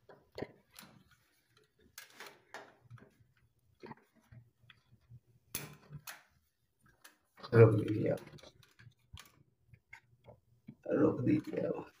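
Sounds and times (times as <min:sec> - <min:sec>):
faint clicks and scrapes on cable: 0:00.0 - 0:12.0.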